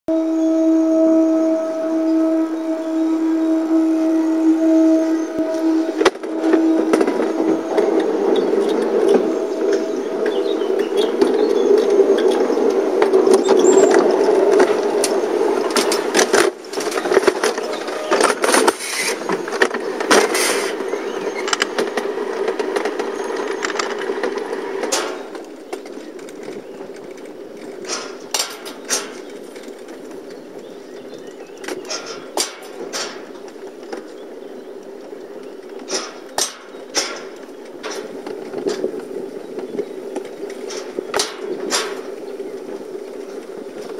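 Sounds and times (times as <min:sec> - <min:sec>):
bobsled rumbling on metal track: 0:00.1 - 0:43.9.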